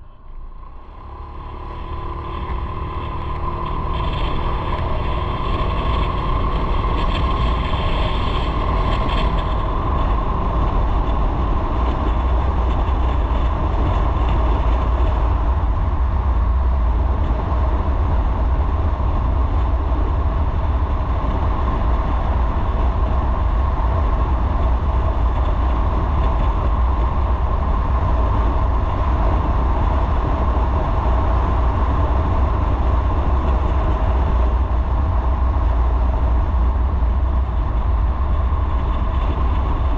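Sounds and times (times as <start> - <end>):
motorcycle engine drone: 0.0 - 39.9
wind rumble on microphone: 0.0 - 39.9.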